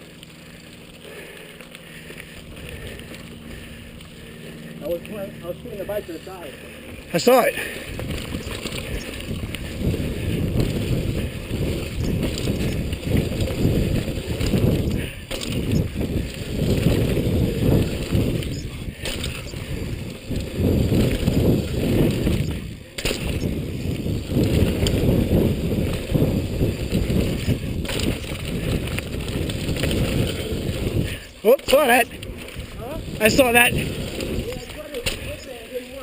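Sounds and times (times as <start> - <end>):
bike tyres rumbling over rocks: 0.0 - 36.0
wind buffeting microphone: 2.4 - 36.0.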